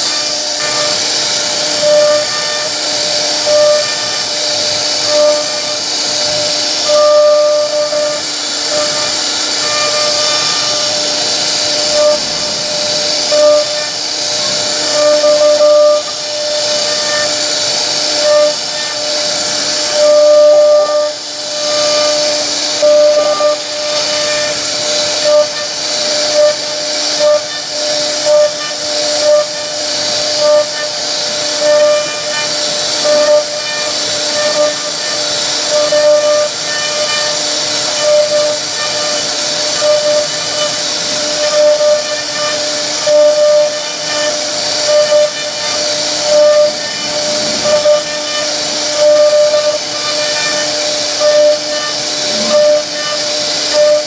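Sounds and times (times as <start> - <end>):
router spindle whining through wood: 0.0 - 54.0.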